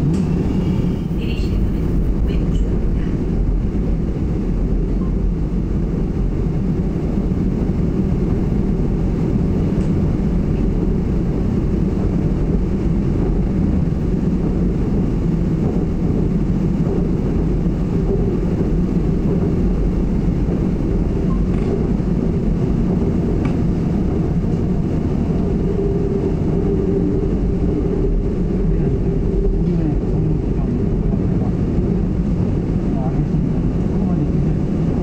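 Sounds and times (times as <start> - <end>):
electric train rumbling: 0.0 - 35.0.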